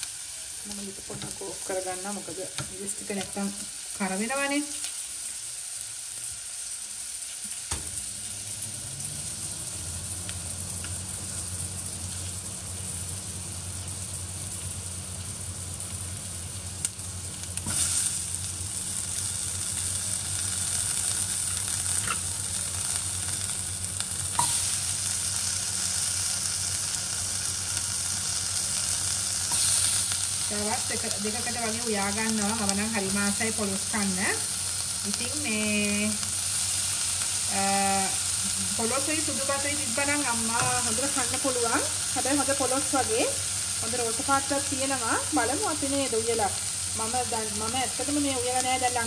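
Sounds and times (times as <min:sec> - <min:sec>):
food sizzling in hot oil: 0:00.0 - 0:49.0
low steady hum: 0:07.8 - 0:49.0.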